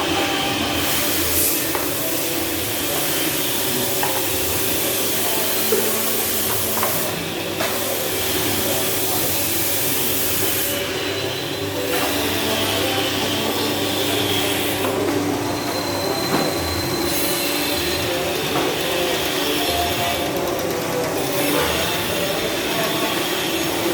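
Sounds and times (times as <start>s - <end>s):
machine humming with hiss: 0.0s - 23.9s.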